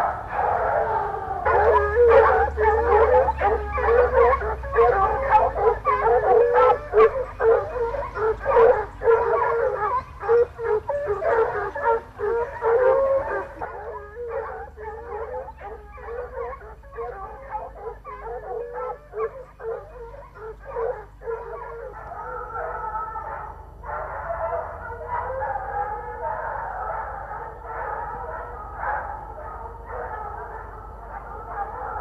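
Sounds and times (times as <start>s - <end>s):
hounds baying: 0.0s - 32.0s.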